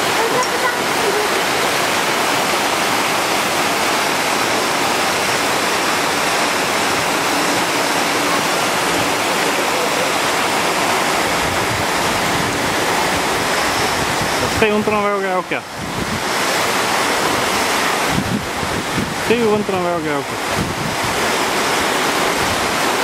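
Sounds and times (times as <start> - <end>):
rush of running water: 0.0 - 23.0.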